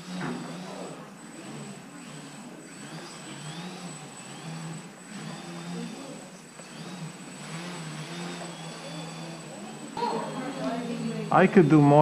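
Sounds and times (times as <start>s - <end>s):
model airplane motor buzzing: 0.0s - 12.0s.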